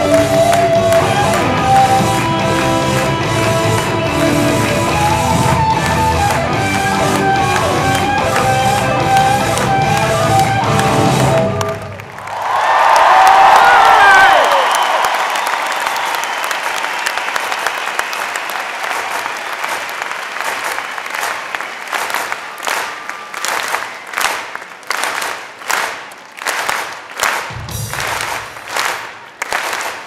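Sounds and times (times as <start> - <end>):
crowd applauding and cheering: 0.0 - 30.0
rhythmic clapping in unison: 0.0 - 30.0.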